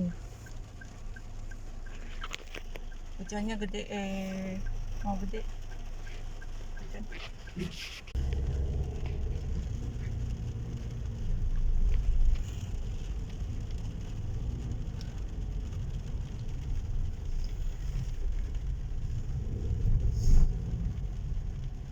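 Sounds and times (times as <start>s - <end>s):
car rumbling on road: 0.0s - 21.9s
heavy rain hiss: 0.0s - 21.9s.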